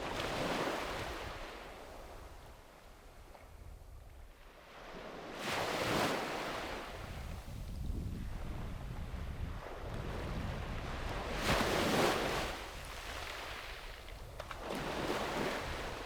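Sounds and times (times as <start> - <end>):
sea waves breaking on beach: 0.0 - 2.7, 4.4 - 7.6, 8.3 - 16.0
wind rumble on microphone: 0.0 - 16.0.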